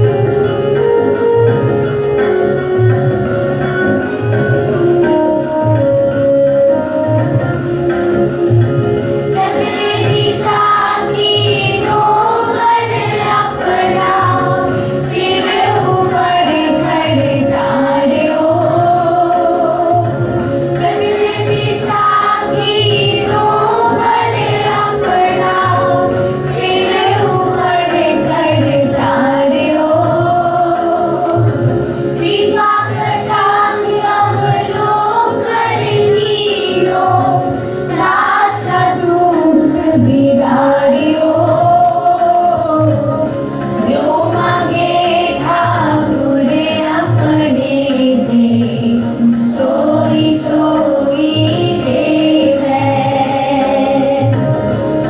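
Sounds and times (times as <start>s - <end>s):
jingling percussion: 0.0s - 55.0s
group singing a hymn: 9.3s - 54.8s.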